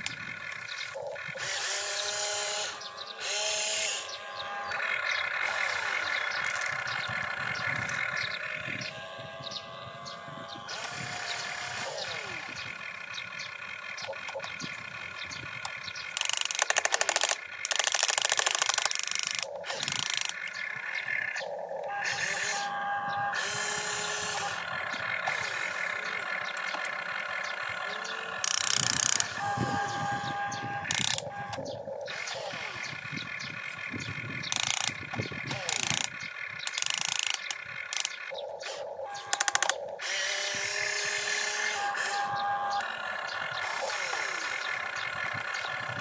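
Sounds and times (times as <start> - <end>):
geared motors ratcheting: 0.0 - 46.0
steady whine: 0.0 - 46.0.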